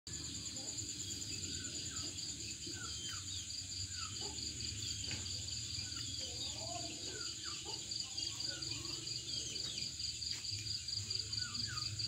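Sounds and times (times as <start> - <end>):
crickets chirring: 0.1 - 12.0.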